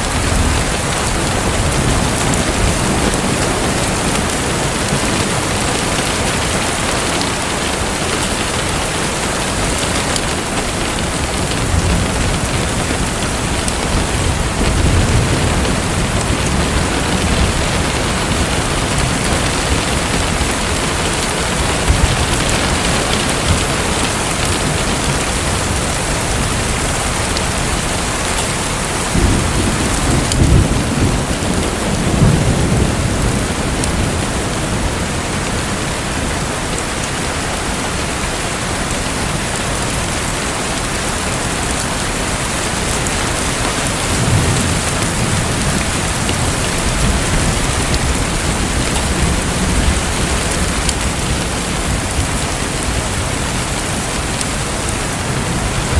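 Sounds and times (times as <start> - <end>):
distant thunder rumbling: 0.0 - 35.8, 41.4 - 55.9
heavy rain: 0.0 - 55.9.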